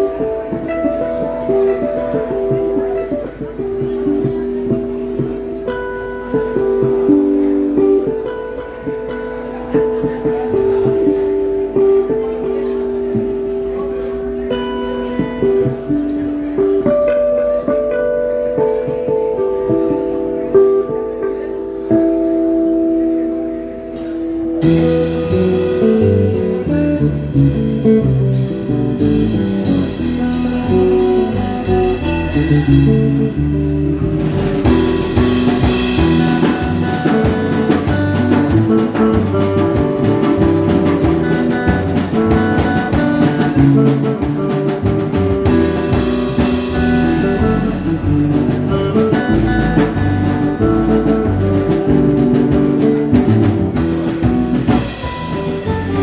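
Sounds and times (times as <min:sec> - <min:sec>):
drum kit: 0:00.0 - 0:56.0
lead guitar: 0:00.0 - 0:56.0
walking bass line: 0:00.0 - 0:56.0.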